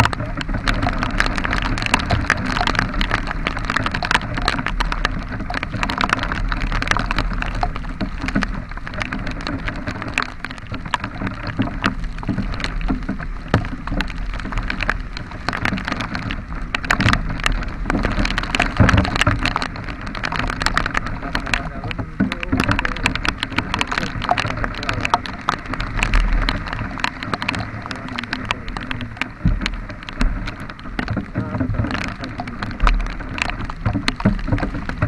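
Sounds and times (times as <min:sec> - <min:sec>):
heavy rain: 0:00.0 - 0:35.0
raindrops ticking close: 0:00.0 - 0:35.0.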